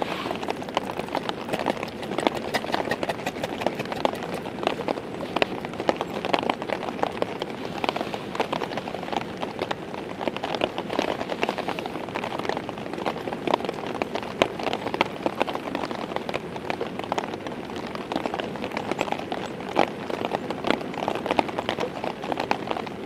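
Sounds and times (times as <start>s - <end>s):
heavy rain on a tarp: 0.0s - 2.6s, 3.6s - 23.0s.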